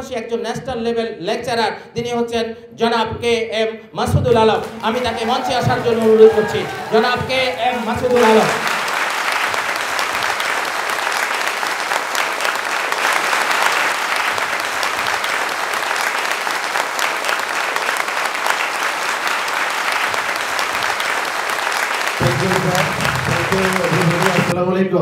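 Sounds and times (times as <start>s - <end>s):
large audience applauding: 4.5s - 24.6s.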